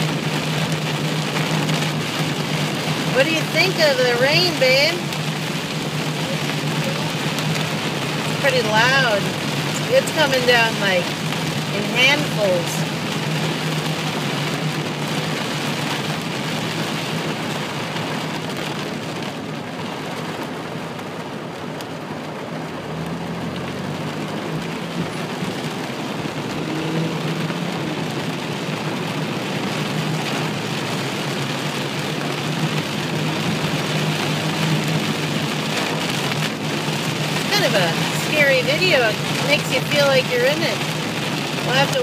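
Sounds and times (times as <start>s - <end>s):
car hum: 0.0s - 42.0s
heavy rain on a car: 0.0s - 42.0s.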